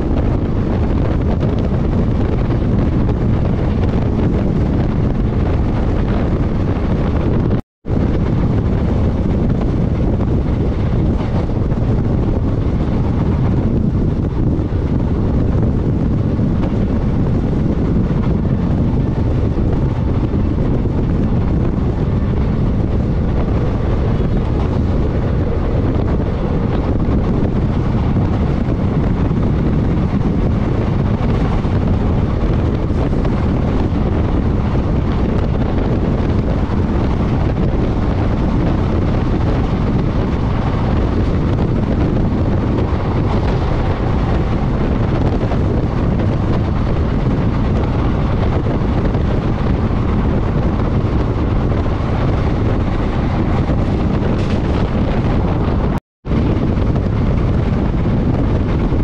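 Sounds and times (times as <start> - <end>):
rushing wind: 0.0 - 59.0
train running noise: 0.0 - 59.0
wind buffeting microphone: 0.0 - 59.0.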